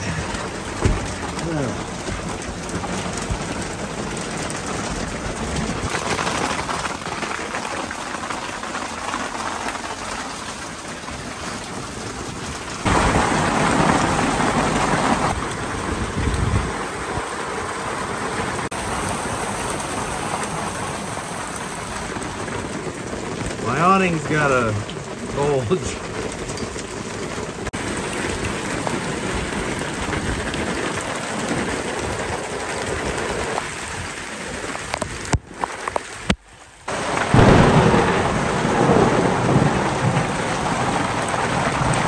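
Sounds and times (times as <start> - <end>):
thunder rumbling: 0.0 - 35.8, 36.9 - 42.0
heavy rain on an awning: 0.0 - 42.0.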